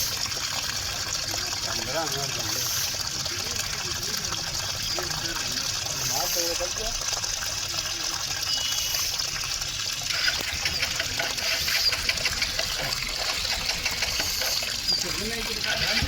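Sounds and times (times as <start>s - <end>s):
water gushing into washing machine: 0.0s - 16.0s.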